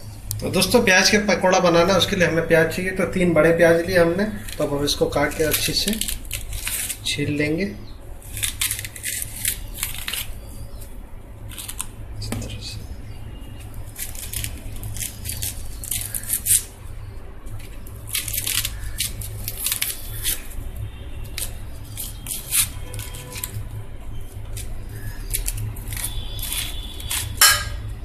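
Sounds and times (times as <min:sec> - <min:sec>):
steady low hum: 0:00.0 - 0:28.0
onion skins crackling and rustling: 0:00.3 - 0:28.0.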